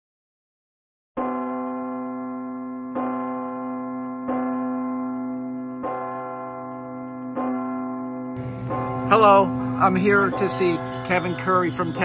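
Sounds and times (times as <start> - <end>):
large bell tolling: 1.2 - 12.0.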